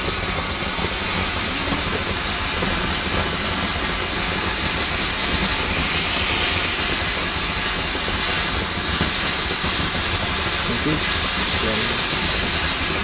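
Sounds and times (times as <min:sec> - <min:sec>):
firework fountains hissing: 0:00.0 - 0:13.0.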